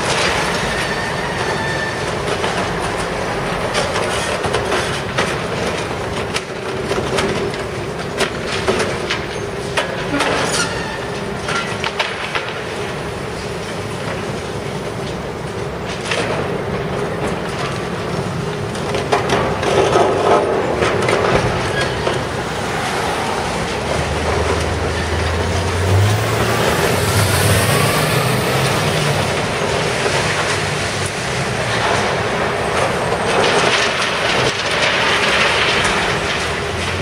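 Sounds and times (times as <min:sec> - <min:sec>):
diesel engine under load: 0:00.0 - 0:37.0.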